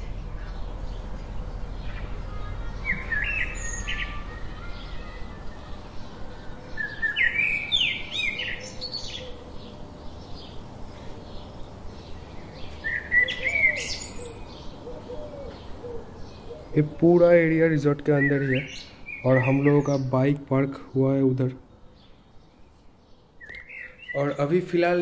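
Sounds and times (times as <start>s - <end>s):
birds chirping and singing: 0.0s - 25.0s.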